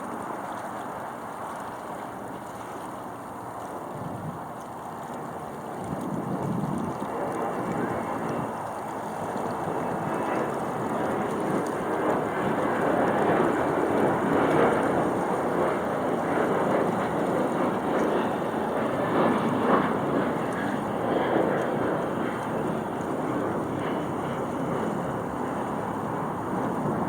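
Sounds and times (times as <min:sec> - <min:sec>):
wind buffeting microphone: 0:03.8 - 0:27.0.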